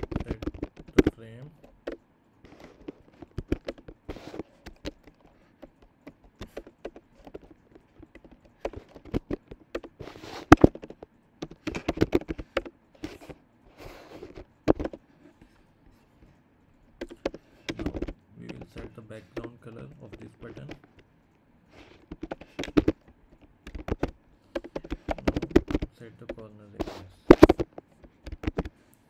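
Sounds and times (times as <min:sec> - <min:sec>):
computer keyboard typing: 0:00.0 - 0:13.4, 0:17.0 - 0:21.0, 0:21.8 - 0:28.8.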